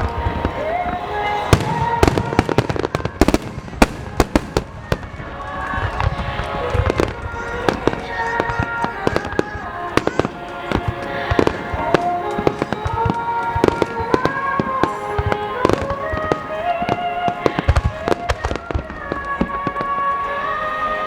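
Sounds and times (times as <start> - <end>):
fireworks bursting: 0.0 - 21.0
music with long held notes: 0.0 - 21.0.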